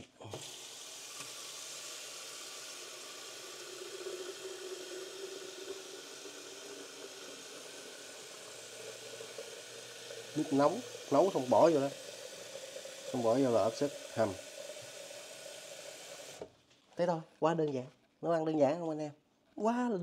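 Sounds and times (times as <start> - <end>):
water heating hiss: 0.0 - 16.5.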